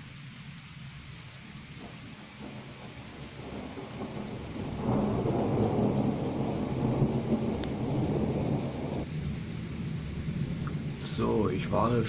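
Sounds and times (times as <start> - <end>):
thunder rumbling: 1.6 - 12.0.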